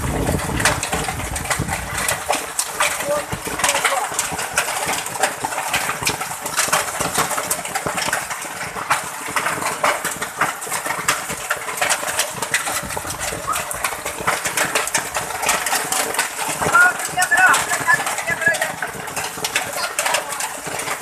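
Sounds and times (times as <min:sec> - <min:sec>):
hail pelting asphalt: 0:00.0 - 0:21.0.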